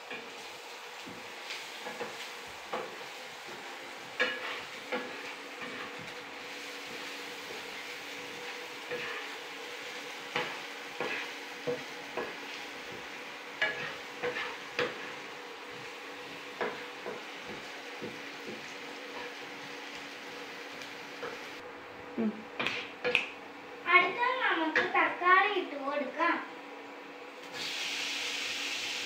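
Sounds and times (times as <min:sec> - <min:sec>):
onion frying in oil: 0:00.0 - 0:21.6, 0:27.4 - 0:29.0.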